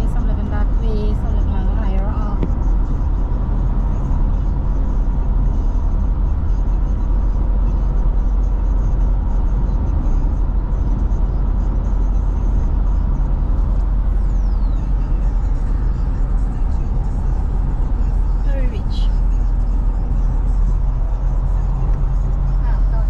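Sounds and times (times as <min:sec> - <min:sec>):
car cabin road noise: 0:00.0 - 0:23.0.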